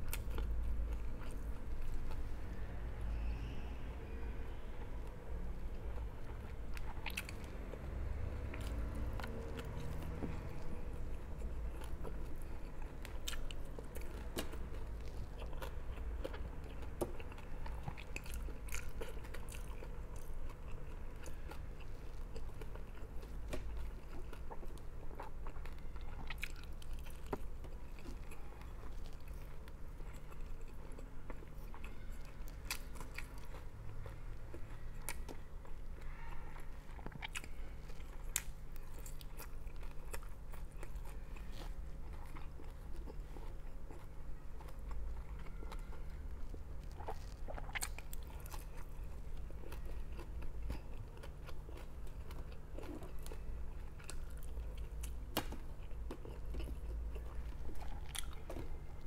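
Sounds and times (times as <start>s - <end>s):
person chewing food: 0.0s - 2.7s, 5.6s - 59.0s.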